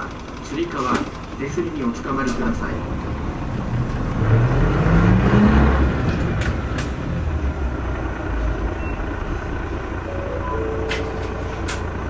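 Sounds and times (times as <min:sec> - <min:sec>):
bus engine pulling away: 0:00.0 - 0:12.0.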